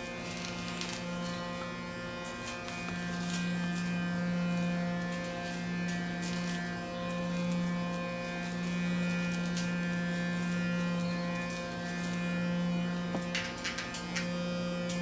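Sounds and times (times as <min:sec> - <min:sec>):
electric cleansing brush buzzing: 0:00.0 - 0:15.0.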